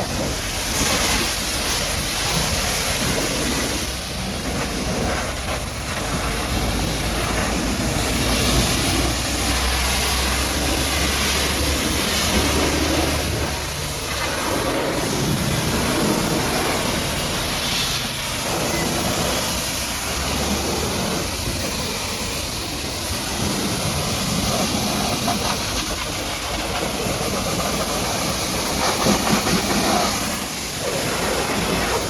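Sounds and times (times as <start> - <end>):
pressure washer jet spraying: 0.0 - 32.0.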